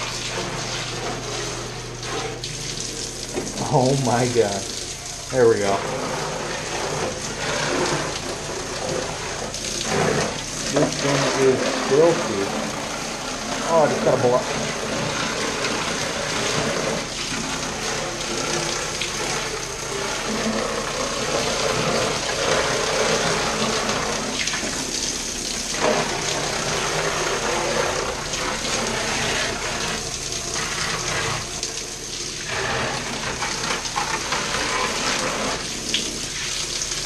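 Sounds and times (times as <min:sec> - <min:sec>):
shower spray hissing and splashing: 0:00.0 - 0:37.0.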